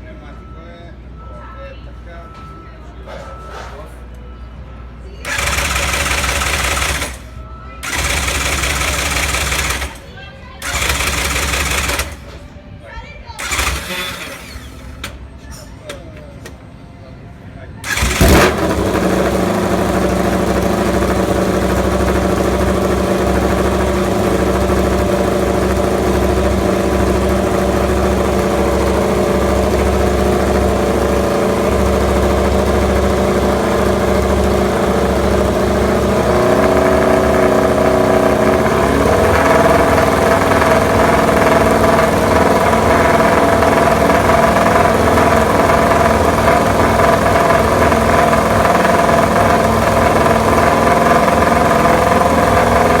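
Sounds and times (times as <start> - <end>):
motorcycle engine idling: 5.2 - 12.3, 13.4 - 15.0, 17.8 - 53.0
motorcycle engine starting: 5.2 - 12.5, 13.4 - 15.3, 17.8 - 53.0.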